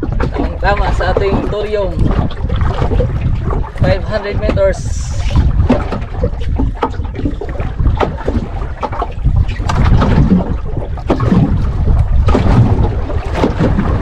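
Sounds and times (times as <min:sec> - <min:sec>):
water splashing against boat: 0:00.0 - 0:14.0
wind buffeting microphone: 0:00.0 - 0:14.0.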